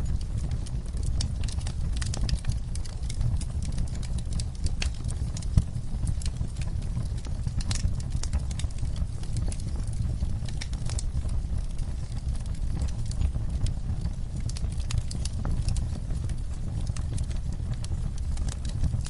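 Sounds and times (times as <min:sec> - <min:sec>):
fire crackling in fireplace: 0:00.0 - 0:19.0.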